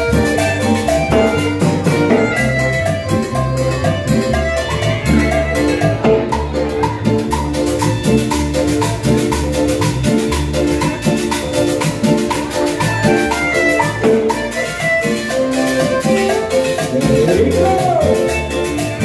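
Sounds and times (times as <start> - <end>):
live band playing latin dance music: 0.0 - 19.0.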